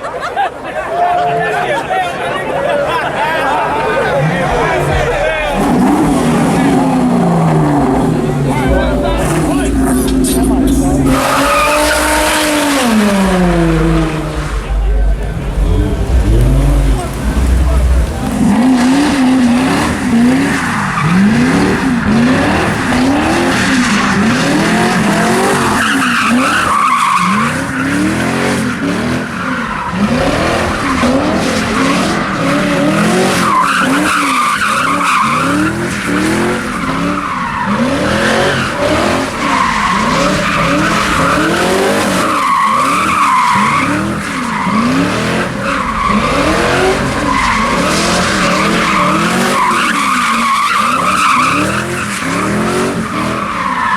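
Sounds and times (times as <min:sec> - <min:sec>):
tires squealing: 0:00.0 - 0:53.9
car engine revving: 0:03.8 - 0:53.9.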